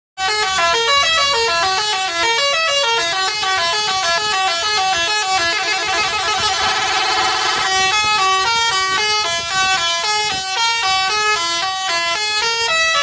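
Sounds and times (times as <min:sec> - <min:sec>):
musical bus horn tune: 0:00.2 - 0:13.0.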